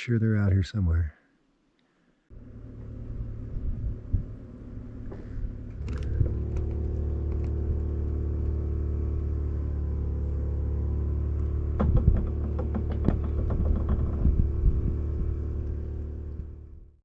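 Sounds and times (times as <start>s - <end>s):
engine running steadily: 2.3s - 17.0s.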